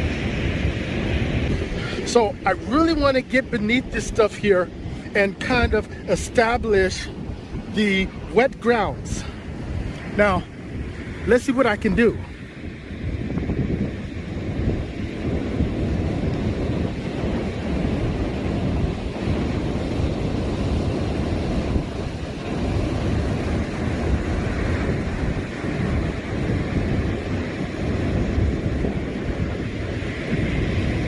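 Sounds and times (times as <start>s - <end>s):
ocean surf washing: 0.0s - 31.0s
wind buffeting microphone: 0.0s - 31.0s.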